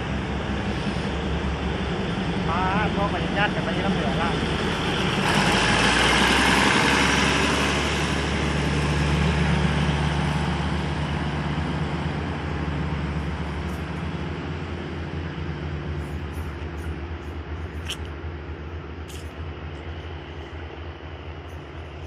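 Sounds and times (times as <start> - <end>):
diesel engine hum: 0.0 - 22.0
train wheels on rails: 0.0 - 22.0.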